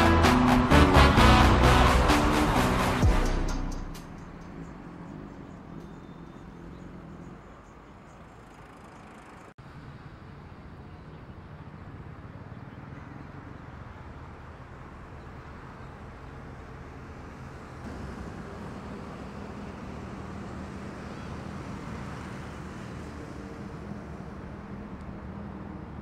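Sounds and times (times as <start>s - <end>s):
motorcycle engines idling: 0.0s - 26.0s.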